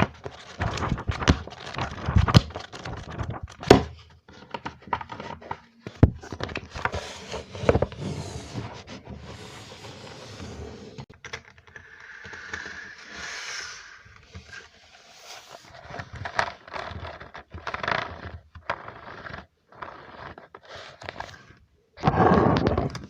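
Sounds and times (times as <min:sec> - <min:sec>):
scratching and scraping: 0:04.4 - 0:23.0.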